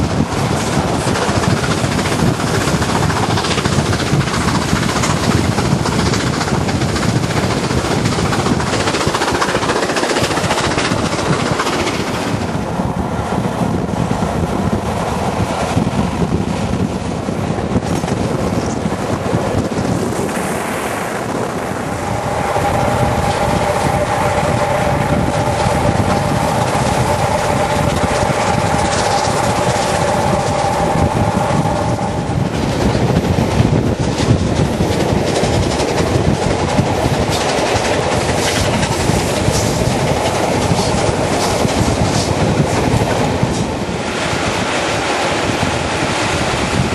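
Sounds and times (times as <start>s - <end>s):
rail clatter: 0.0s - 46.9s
train running at speed: 0.0s - 46.9s
wind on microphone: 0.0s - 46.9s.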